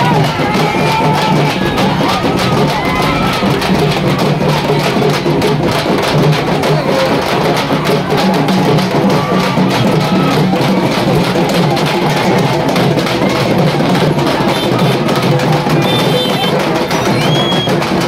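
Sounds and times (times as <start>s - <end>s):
large drums beaten with sticks: 0.0s - 18.0s.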